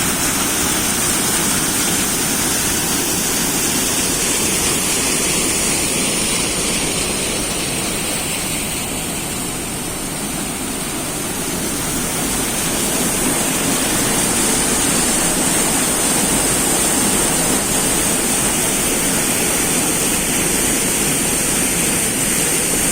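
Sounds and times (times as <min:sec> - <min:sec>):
fast-flowing water rushing: 0:00.0 - 0:22.9.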